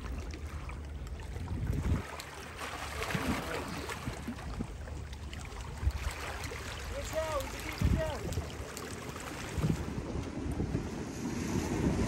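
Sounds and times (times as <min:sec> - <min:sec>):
wind rumbling on microphone: 0:00.0 - 0:02.3, 0:03.0 - 0:12.0
waves lapping on rocks: 0:00.0 - 0:12.0.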